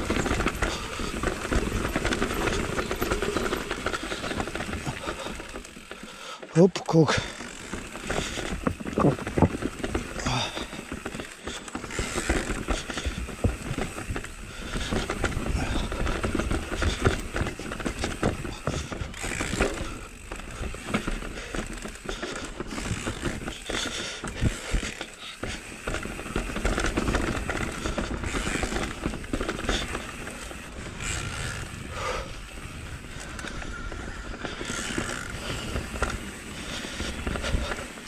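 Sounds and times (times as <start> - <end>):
bike rattling over stones: 0.0 - 38.0.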